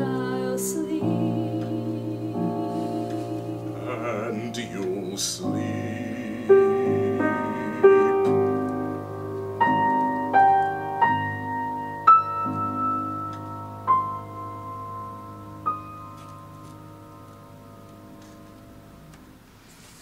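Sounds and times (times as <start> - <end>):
slow soft solo piano: 0.0 - 20.0.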